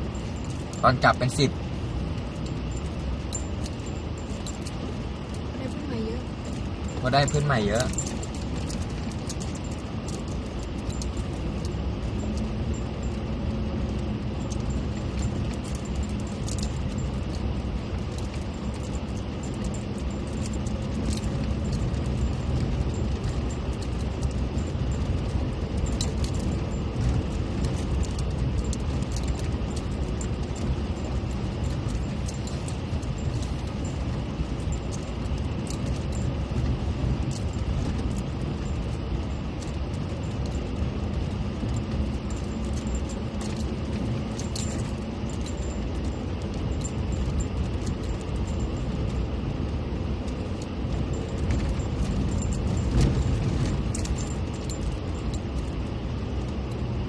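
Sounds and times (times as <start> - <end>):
light rattles and clicks: 0.0 - 57.0
off-road vehicle rumbling: 0.0 - 57.0.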